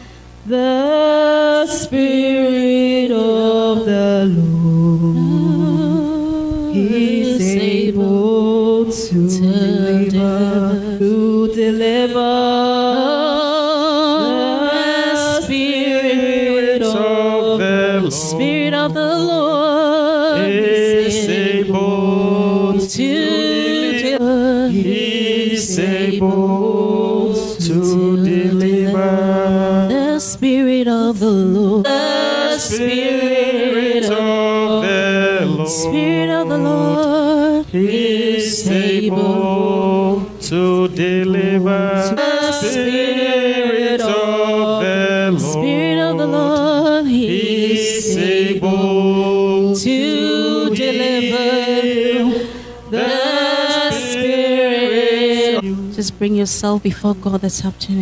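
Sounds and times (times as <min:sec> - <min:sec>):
woman singing gospel: 0:00.4 - 0:58.0.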